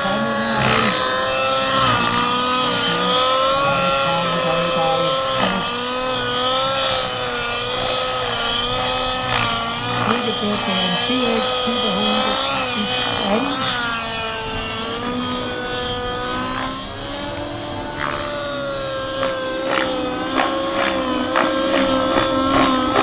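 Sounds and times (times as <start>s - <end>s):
model helicopter engine and rotor: 0.0s - 23.0s.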